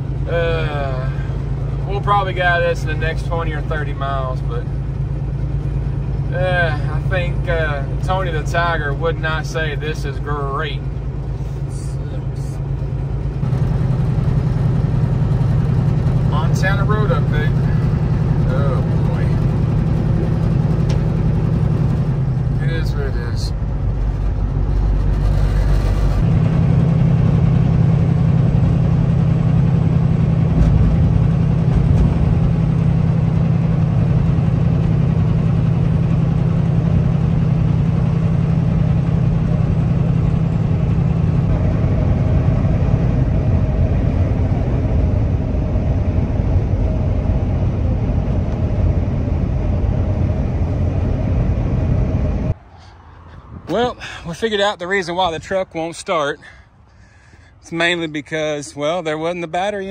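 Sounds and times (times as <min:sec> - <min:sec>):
high steady hum: 0:00.0 - 0:54.2
truck engine and road drone: 0:00.0 - 0:59.9.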